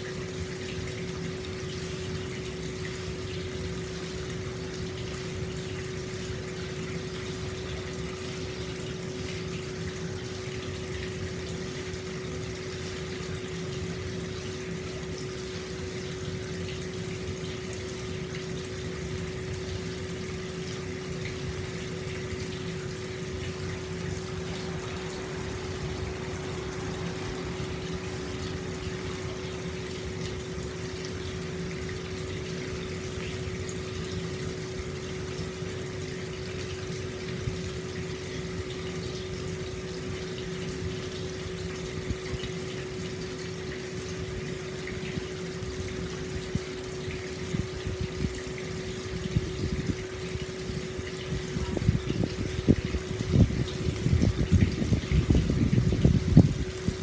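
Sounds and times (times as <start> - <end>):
steady hum: 0.0 - 57.0
water pouring and splashing: 0.0 - 57.0.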